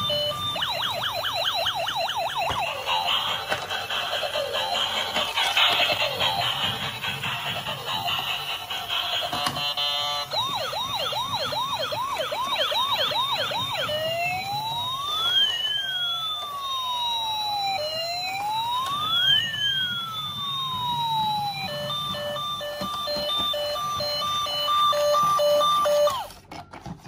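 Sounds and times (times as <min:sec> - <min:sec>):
toy ambulance electronic siren: 0:00.0 - 0:26.5.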